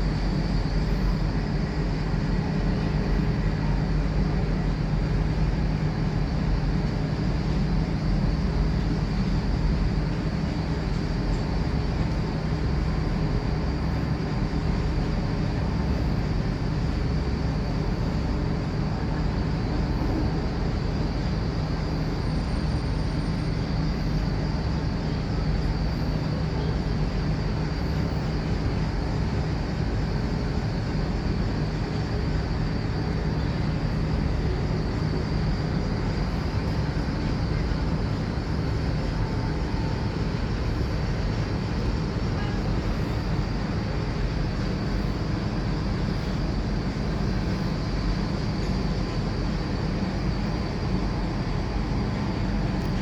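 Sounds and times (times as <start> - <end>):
machinery rumble with low hum: 0.0 - 53.0.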